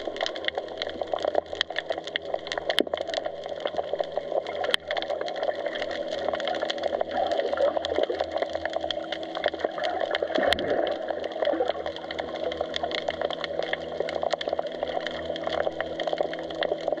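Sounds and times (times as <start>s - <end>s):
crackle of small clicks: 0.0s - 17.0s
steady low hum: 0.0s - 17.0s.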